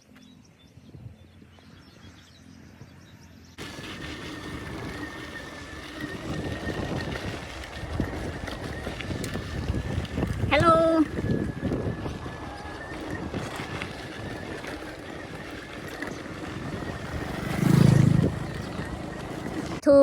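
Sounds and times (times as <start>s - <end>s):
wind: 0.0s - 20.0s
faint steady motor whine: 1.3s - 19.8s
tyre rumble: 3.6s - 19.9s.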